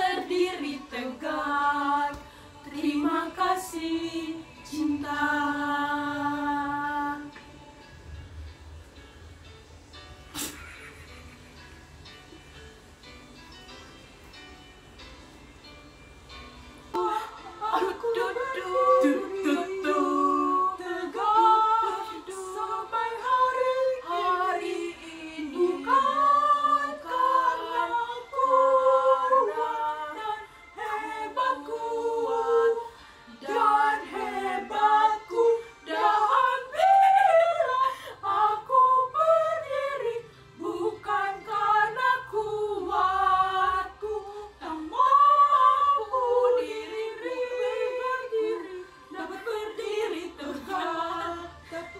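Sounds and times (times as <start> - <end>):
women singing without accompaniment: 0.0 - 7.8, 17.0 - 51.9.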